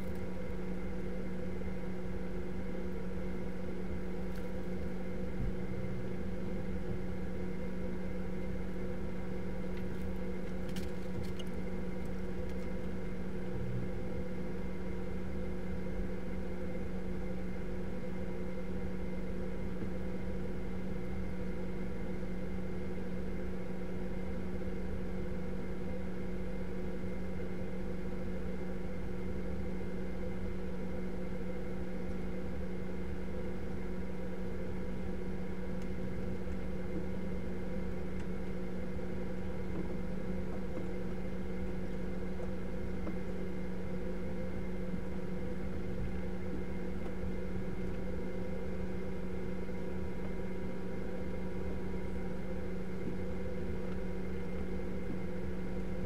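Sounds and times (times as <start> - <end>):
machine hum: 0.0 - 56.0.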